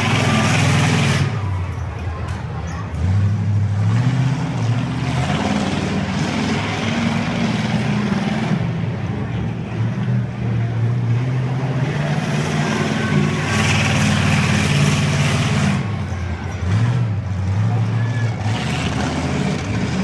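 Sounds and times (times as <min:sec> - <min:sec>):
racing car engines accelerating: 0:00.0 - 0:20.0.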